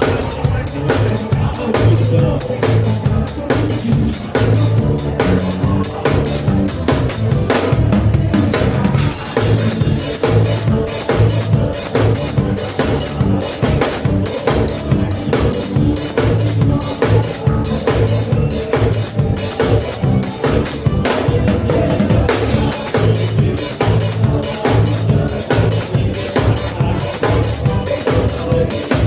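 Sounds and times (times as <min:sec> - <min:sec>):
bass: 0:00.0 - 0:29.0
drum kit fast beat: 0:00.0 - 0:29.0.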